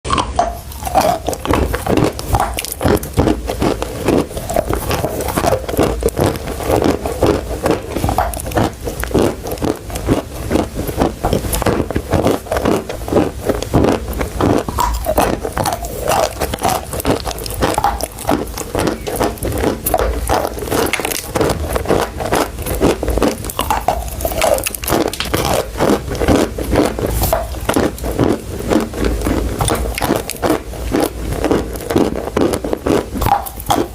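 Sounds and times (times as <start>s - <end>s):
chewing crunchy chalk: 0.1s - 33.9s.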